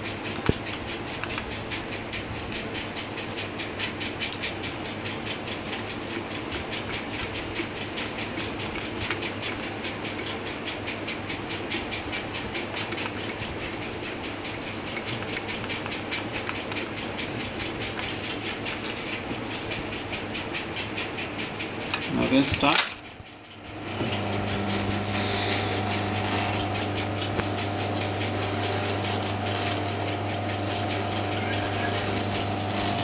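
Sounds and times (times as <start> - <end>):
machine clicking rhythmically: 0.0 - 33.0.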